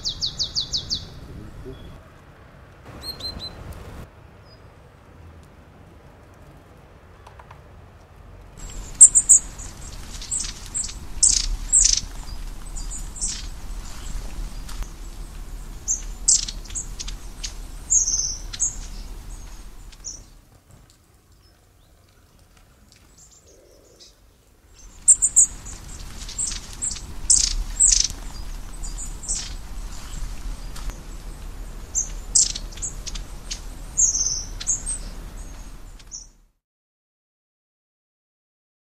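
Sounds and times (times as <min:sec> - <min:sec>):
songbirds chirping: 0:00.0 - 0:02.1, 0:02.8 - 0:05.2, 0:08.2 - 0:20.5, 0:21.1 - 0:36.5.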